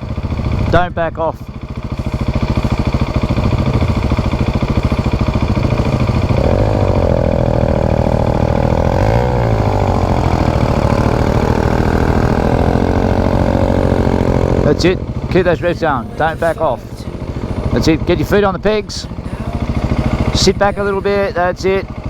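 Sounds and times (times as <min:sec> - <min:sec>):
motorcycle engine running: 0:00.0 - 0:22.0
motorcycle engine under load: 0:00.0 - 0:22.0.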